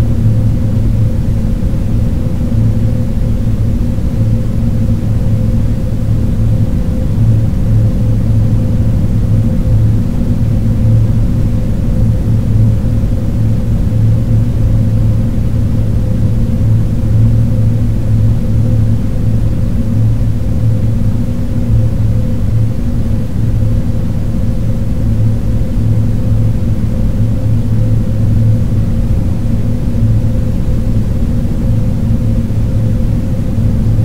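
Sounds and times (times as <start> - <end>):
muffled white noise: 0.0 - 34.0.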